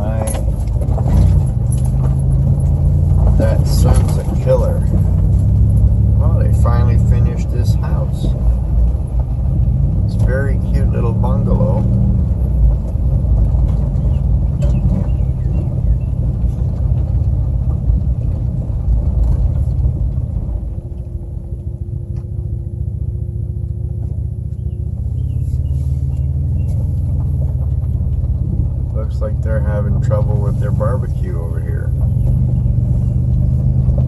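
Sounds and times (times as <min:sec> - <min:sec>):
vehicle engine and road rumble: 0:00.0 - 0:34.0.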